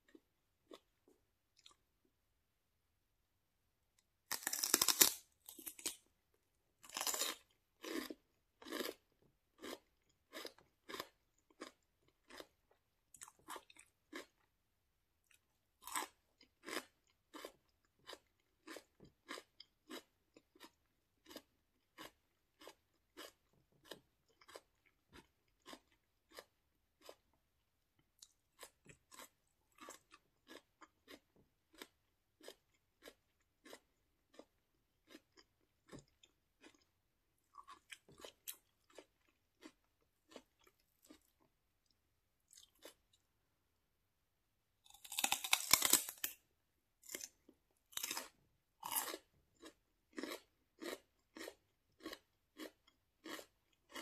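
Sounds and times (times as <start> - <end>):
crunchy chewing of celery: 0.0 - 1.9, 4.3 - 6.1, 6.8 - 14.6, 15.2 - 43.3, 44.8 - 54.0.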